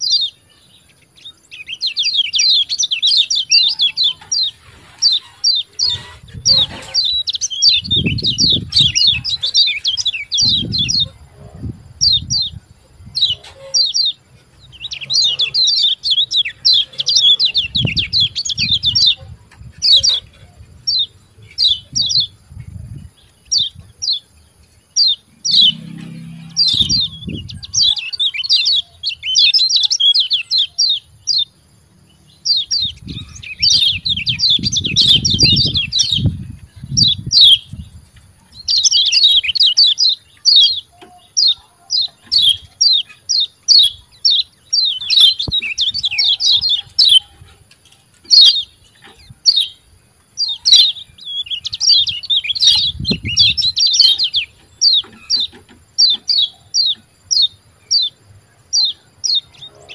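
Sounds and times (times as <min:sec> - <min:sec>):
bird chirping high-pitched: 0:00.0 - 0:31.6, 0:32.2 - 0:59.9.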